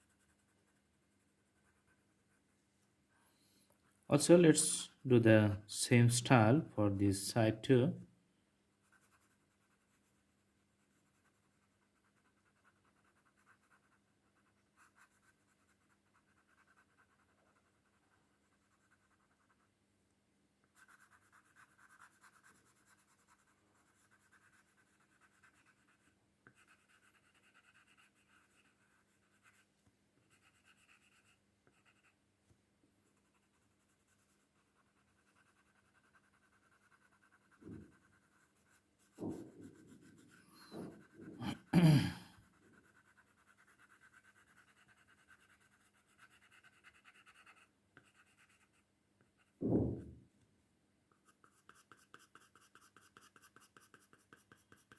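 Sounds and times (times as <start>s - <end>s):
pencil scratching on paper: 0.0s - 2.5s, 8.8s - 19.8s, 20.6s - 32.2s, 33.0s - 41.9s, 42.5s - 49.6s, 51.1s - 54.9s.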